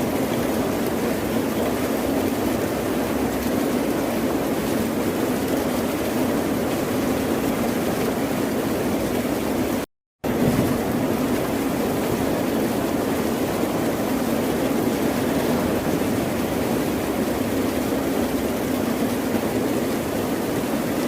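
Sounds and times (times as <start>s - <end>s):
ocean waves rushing: 0.0s - 21.0s.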